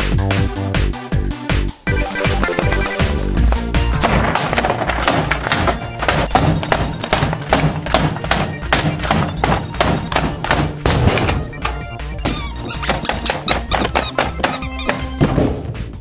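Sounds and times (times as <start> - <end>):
background music with a beat: 0.0 - 16.0
sharp thumps and knocks: 2.0 - 16.0.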